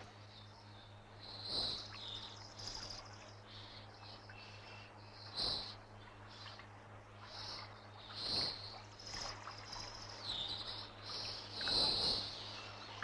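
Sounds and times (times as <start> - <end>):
low film soundtrack hum: 0.0 - 13.0.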